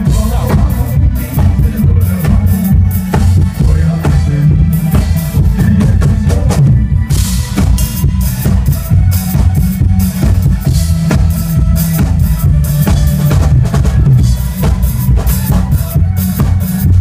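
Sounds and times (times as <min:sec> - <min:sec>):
drum kit playing: 0:00.0 - 0:17.0
pop song backing track: 0:00.0 - 0:17.0.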